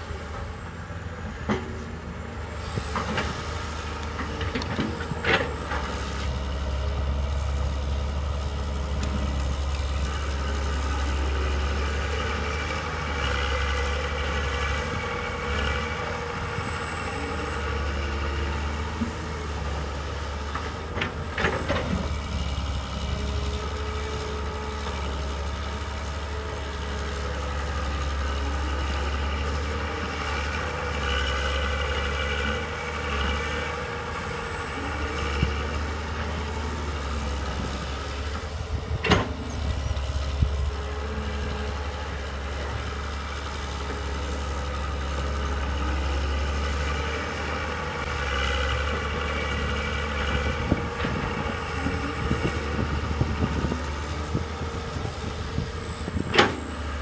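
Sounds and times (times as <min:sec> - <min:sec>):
excavator diesel engines working: 0:00.0 - 0:57.0.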